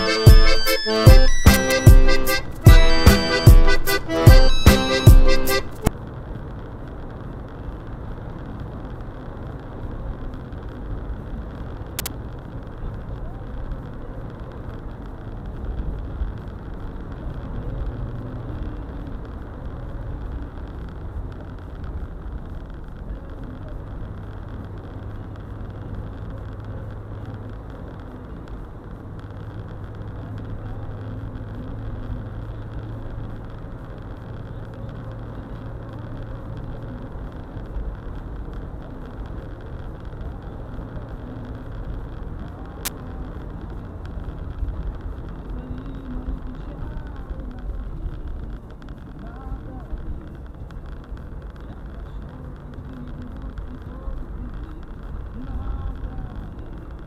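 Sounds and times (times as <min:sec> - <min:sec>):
car engine and tyres rumbling: 0:05.2 - 0:57.0.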